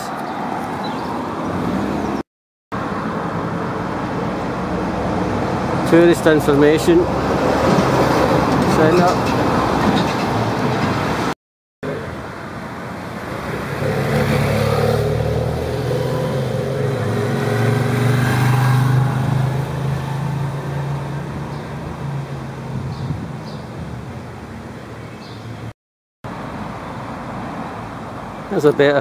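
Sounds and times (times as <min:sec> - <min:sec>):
vehicle passing on road: 0:00.0 - 0:02.2, 0:02.8 - 0:25.7, 0:26.3 - 0:29.0.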